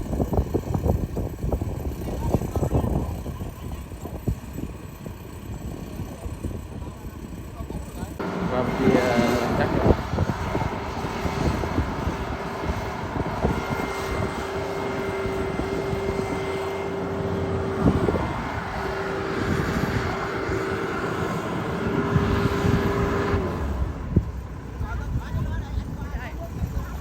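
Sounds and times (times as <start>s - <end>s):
combine harvester engine and threshing: 0.0s - 27.0s.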